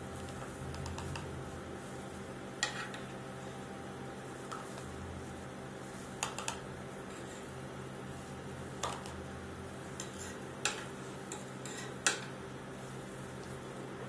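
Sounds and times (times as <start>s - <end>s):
refrigeration unit hum: 0.0s - 14.0s.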